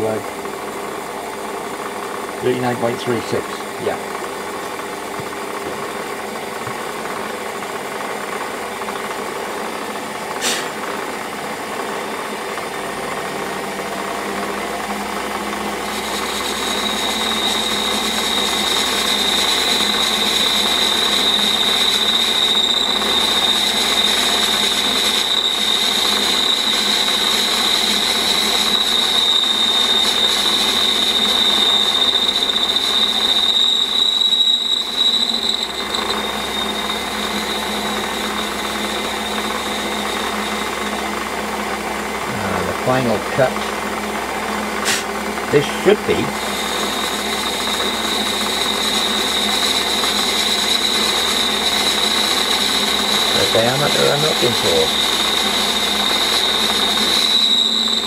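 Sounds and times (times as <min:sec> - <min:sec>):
high-pitched cutting whine: 0:00.0 - 0:58.0
metal lathe running: 0:00.0 - 0:58.0.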